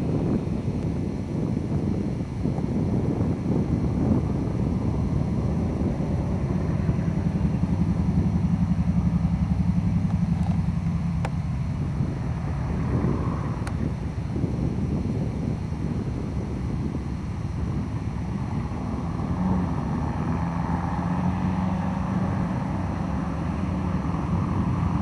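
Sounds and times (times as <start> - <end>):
propeller plane engines droning: 0.0 - 25.0.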